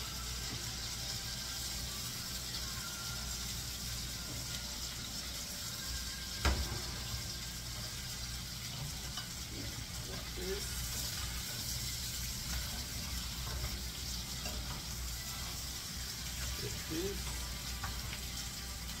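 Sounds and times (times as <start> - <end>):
meat sizzling in a skillet: 0.0 - 19.0.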